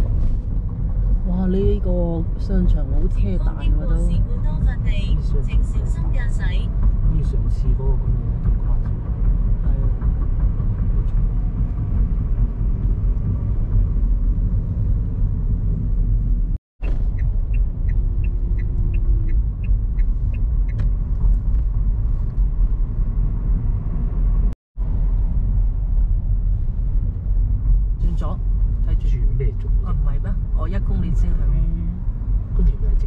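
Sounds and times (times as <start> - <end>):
car road and engine rumble: 0.0 - 33.0.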